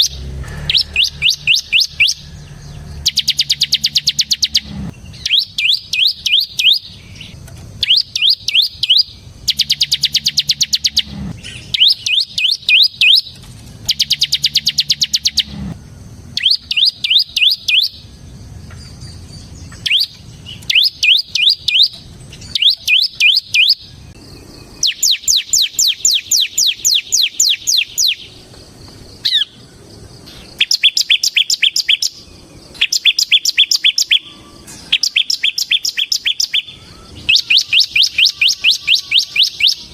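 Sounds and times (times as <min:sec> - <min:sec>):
bird singing rapid high chirps: 0:00.0 - 0:15.7, 0:16.3 - 0:28.4, 0:29.1 - 0:39.9.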